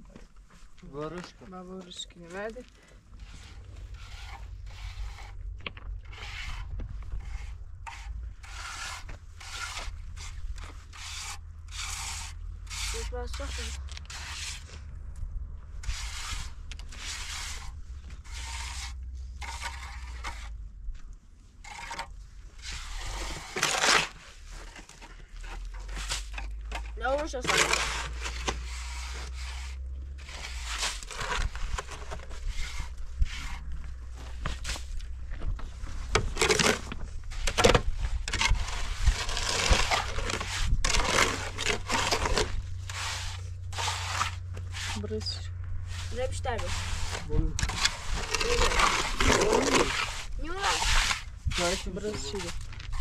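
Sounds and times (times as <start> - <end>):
trowel scraping wet cement: 3.2 - 14.8, 15.8 - 20.5, 21.6 - 33.7, 36.0 - 53.0.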